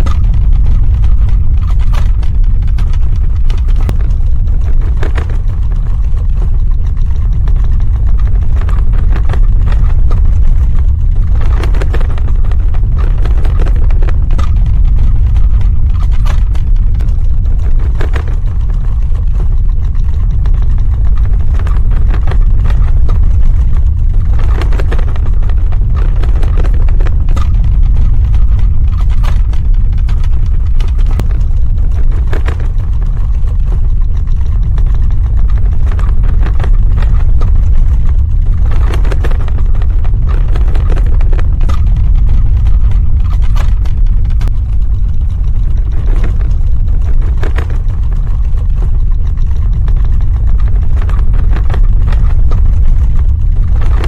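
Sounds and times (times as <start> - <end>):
crackles and rattles: 0.0 - 54.0
deep earthquake rumble: 0.0 - 54.0.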